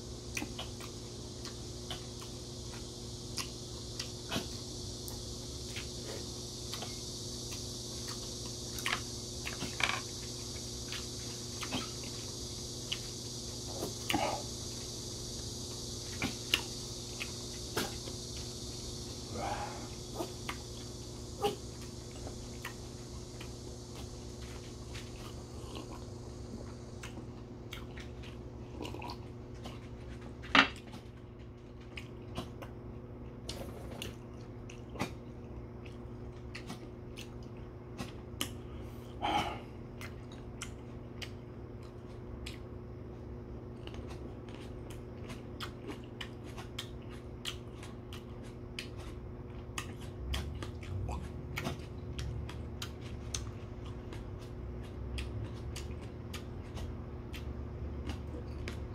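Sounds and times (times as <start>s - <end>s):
electric fan humming: 0.0s - 58.9s
chewing with small clicks: 0.3s - 14.3s, 20.2s - 21.1s, 21.7s - 30.2s, 30.8s - 38.6s, 39.9s - 58.9s.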